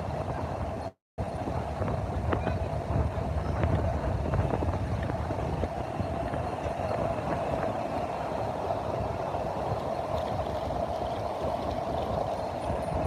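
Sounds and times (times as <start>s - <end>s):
wind rumbling on microphone: 0.0s - 13.0s
sea waves washing on beach: 1.2s - 13.0s.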